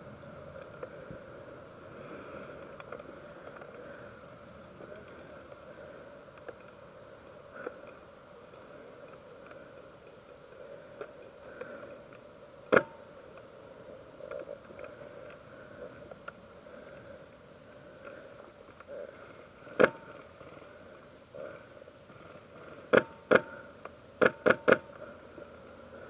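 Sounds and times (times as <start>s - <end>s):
faint steady hum: 0.0s - 26.0s
small ticks: 2.5s - 4.2s, 4.8s - 5.7s, 6.3s - 6.9s, 7.5s - 13.5s, 14.2s - 26.0s.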